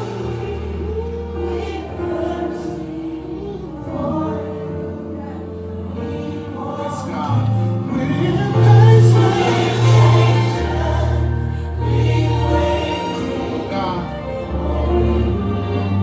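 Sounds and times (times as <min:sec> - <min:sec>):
choir singing gospel: 0:00.0 - 0:16.0
steady bass accompaniment: 0:00.0 - 0:16.0.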